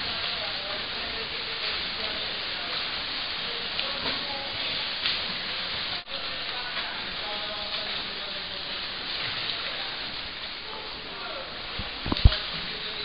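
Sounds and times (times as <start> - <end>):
swimmers splashing in a pool: 0.0 - 13.0.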